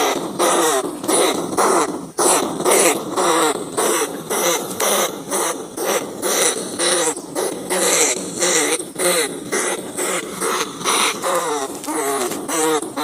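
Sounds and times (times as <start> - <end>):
rats squealing: 0.0 - 13.0.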